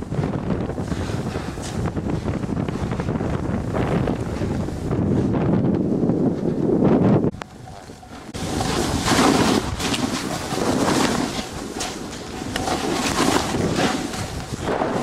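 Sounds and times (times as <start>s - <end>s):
snowboard sliding through snow: 0.0s - 15.0s
wind buffeting microphone: 0.0s - 15.0s.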